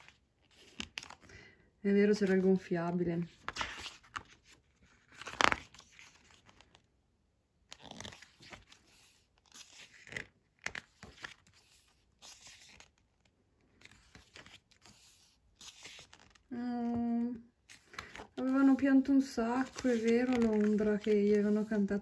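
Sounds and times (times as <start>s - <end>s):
paper pages rustling: 0.0s - 1.3s, 2.2s - 6.8s, 7.7s - 22.0s.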